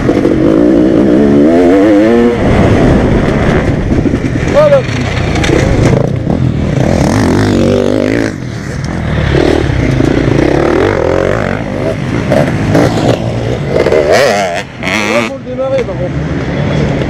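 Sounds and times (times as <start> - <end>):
motocross engine revving: 0.0 - 15.6.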